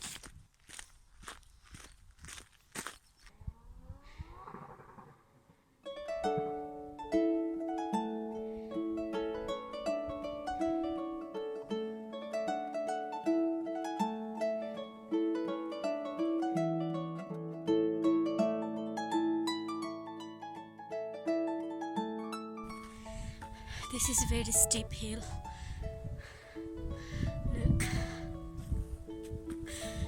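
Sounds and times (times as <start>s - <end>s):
harp tune: 5.8s - 30.0s.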